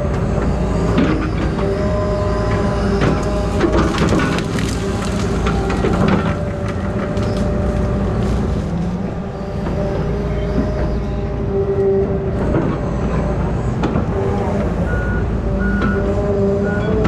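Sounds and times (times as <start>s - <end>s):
diesel engine rumble: 0.0s - 17.0s
hydraulics whining: 0.0s - 17.0s.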